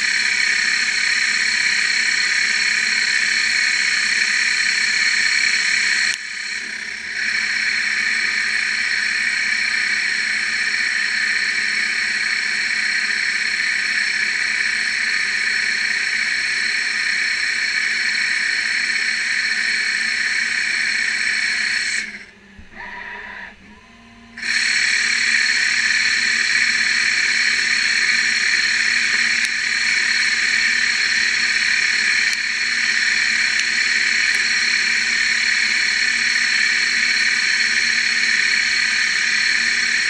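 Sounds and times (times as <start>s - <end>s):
lathe whirring with high whine: 0.0s - 40.0s.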